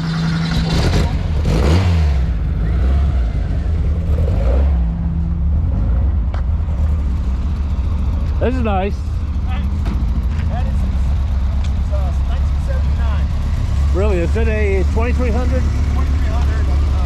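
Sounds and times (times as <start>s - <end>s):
car engine rumbling and revving: 0.0s - 17.0s.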